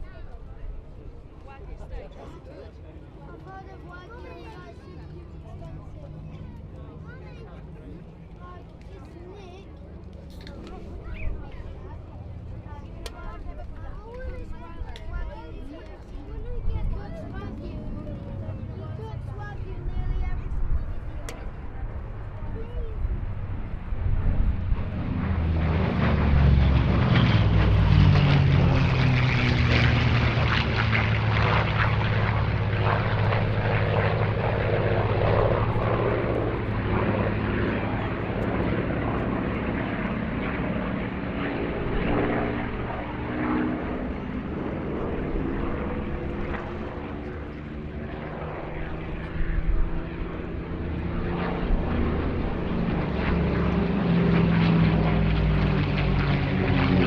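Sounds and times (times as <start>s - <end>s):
propeller planes flying past: 0.0s - 57.0s.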